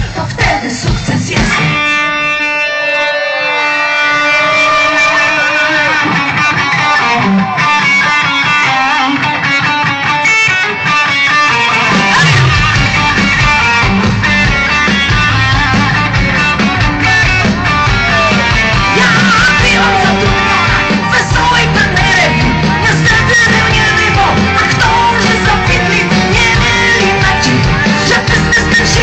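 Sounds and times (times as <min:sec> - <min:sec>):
bass and drums: 0:00.0 - 0:02.5, 0:04.1 - 0:29.0
electric guitar: 0:00.0 - 0:29.0.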